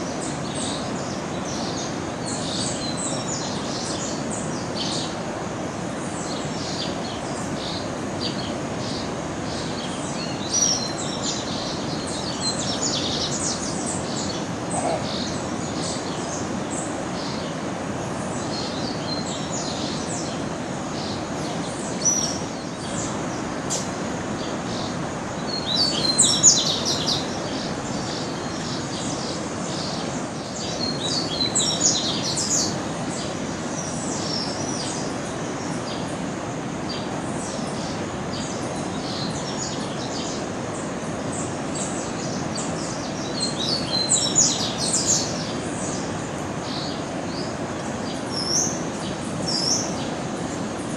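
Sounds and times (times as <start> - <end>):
steady background hiss: 0.0 - 50.9
birds chirping: 5.8 - 50.9.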